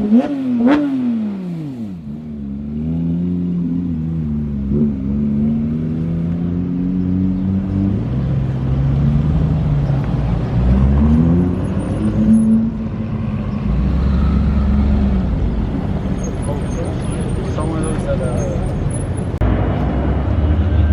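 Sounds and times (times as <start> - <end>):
car engine revving: 0.0 - 20.9.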